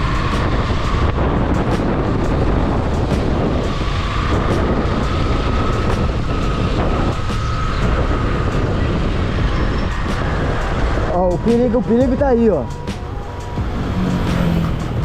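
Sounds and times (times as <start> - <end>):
motorcycle engine running: 0.0 - 15.0
wind rushing on microphone: 0.0 - 15.0.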